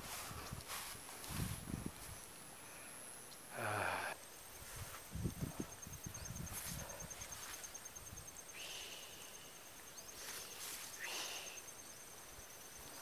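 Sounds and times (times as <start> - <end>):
faint insects trilling: 0.0 - 13.0.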